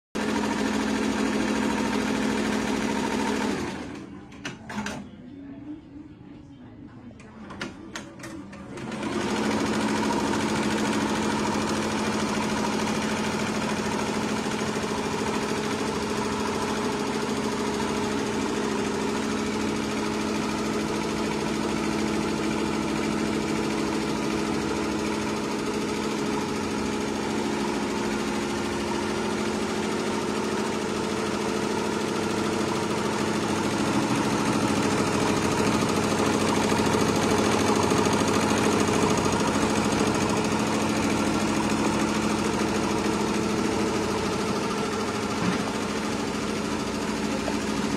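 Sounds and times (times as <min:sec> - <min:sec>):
embroidery machine stitching: 0:00.2 - 0:05.0, 0:07.5 - 0:47.9.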